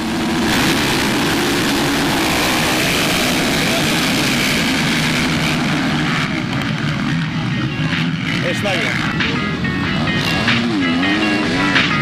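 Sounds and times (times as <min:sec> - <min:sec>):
motocross bike engines droning: 0:00.0 - 0:12.0.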